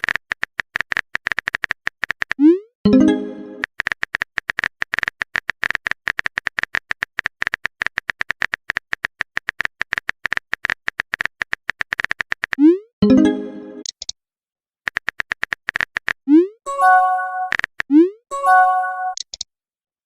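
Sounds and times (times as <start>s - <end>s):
keyboard typing clicks: 0.0s - 14.2s, 14.9s - 19.5s.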